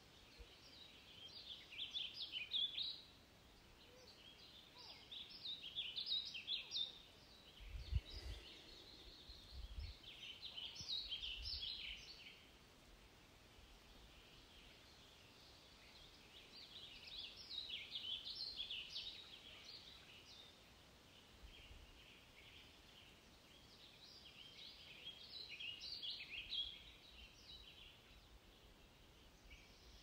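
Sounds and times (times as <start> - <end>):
faint steady hiss: 0.0 - 30.0
songbird chirping: 0.0 - 30.0.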